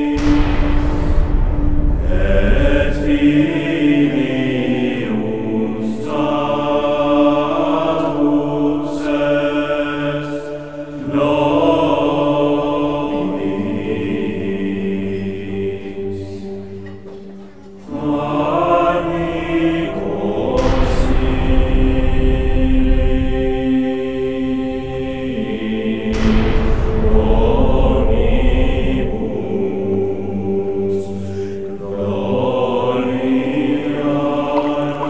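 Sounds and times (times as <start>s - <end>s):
choir singing chant-like phrases: 0.0s - 35.0s.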